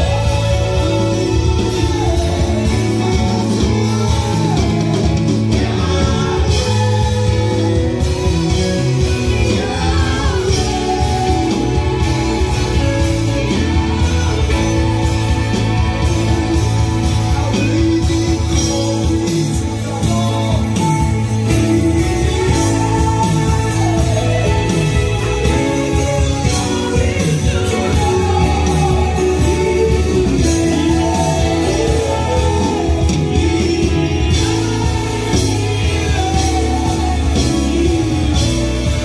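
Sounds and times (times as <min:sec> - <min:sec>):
drums: 0:00.0 - 0:39.0
electric guitar: 0:00.0 - 0:39.0
keyboard playing: 0:00.0 - 0:39.0
people singing into microphones: 0:00.0 - 0:39.0.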